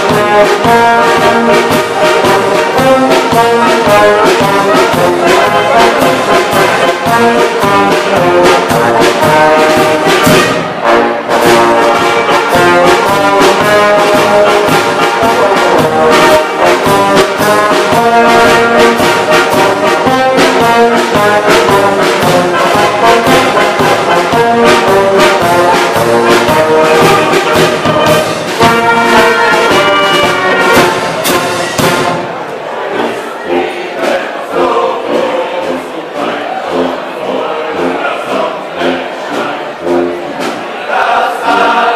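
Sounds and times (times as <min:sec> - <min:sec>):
brass band playing: 0:00.0 - 0:41.9.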